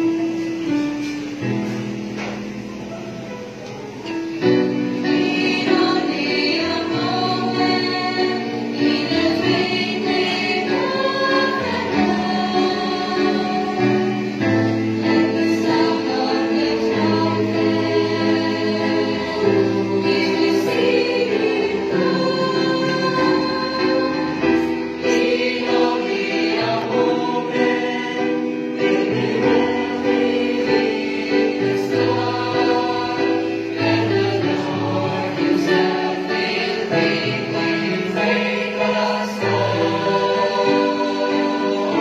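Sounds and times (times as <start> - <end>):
choir singing a hymn: 0.0 - 42.0.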